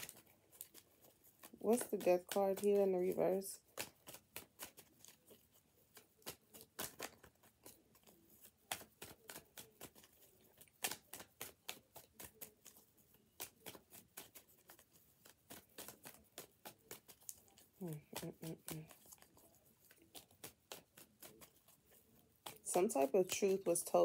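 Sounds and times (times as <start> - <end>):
cards being shuffled: 0.0 - 24.0.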